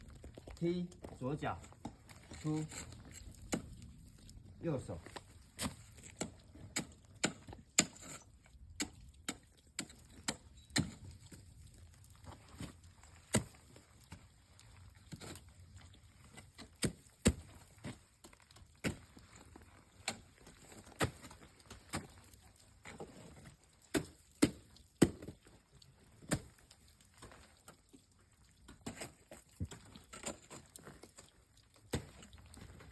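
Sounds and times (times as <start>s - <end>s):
ice axes striking ice: 1.1s - 3.9s, 5.1s - 11.5s, 12.6s - 14.3s, 16.2s - 27.8s, 28.6s - 32.9s.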